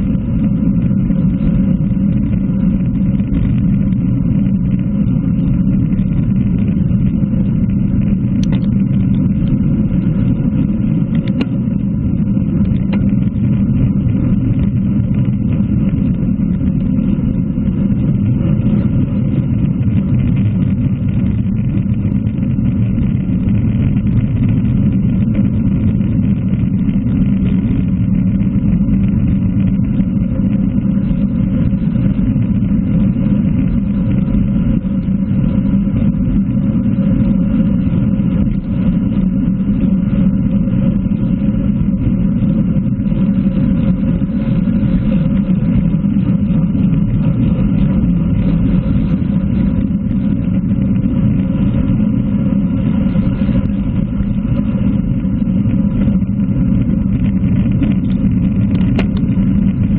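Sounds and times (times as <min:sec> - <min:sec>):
bicycle tyres humming on tarmac: 0:00.0 - 0:59.9
wind rushing on microphone: 0:00.0 - 0:59.9.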